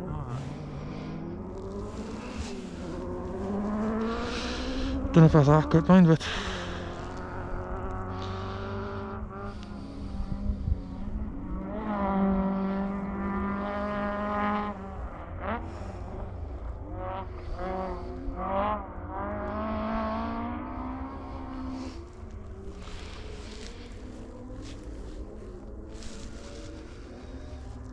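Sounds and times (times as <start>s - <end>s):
rally car engine revving: 0.0s - 27.9s.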